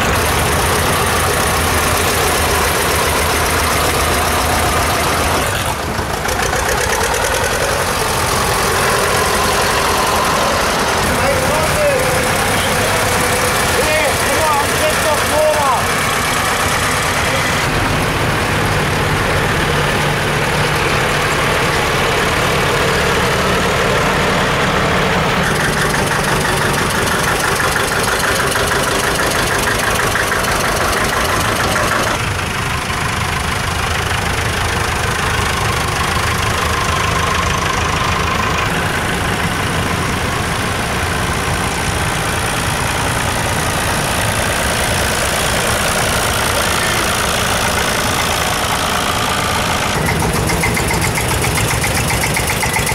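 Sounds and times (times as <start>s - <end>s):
tractor engines running: 0.0s - 52.9s.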